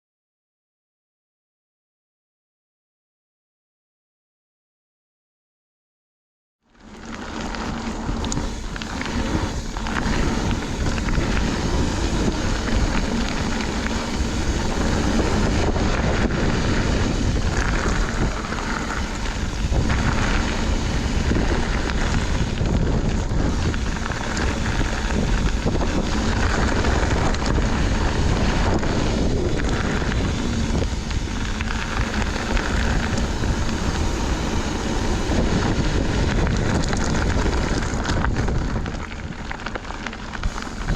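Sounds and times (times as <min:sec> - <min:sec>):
tyres rolling on dirt trail: 0:06.7 - 0:40.9
wind buffeting microphone: 0:06.8 - 0:40.9.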